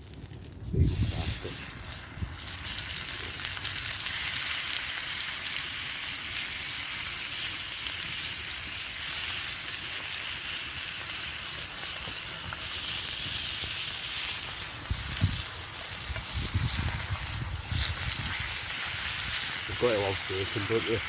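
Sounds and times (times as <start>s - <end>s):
food sizzling on a grill: 0.0s - 21.0s.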